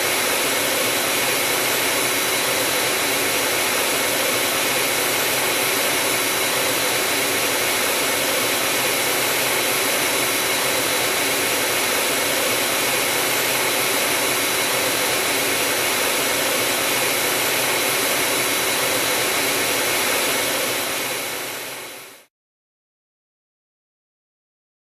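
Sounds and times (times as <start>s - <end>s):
jet engine whine: 0.0s - 22.3s.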